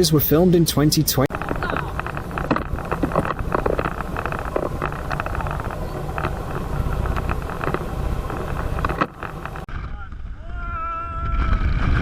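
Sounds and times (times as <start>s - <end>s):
wind buffeting microphone: 1.3s - 12.0s.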